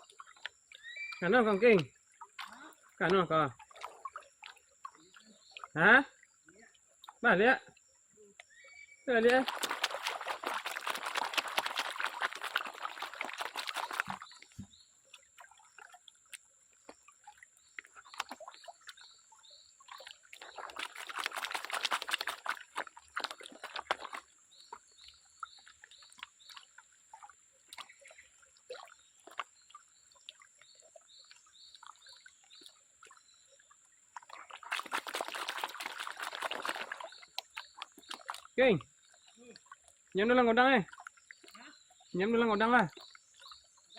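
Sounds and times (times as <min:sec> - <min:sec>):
water sloshing and pouring: 0:00.0 - 0:43.9.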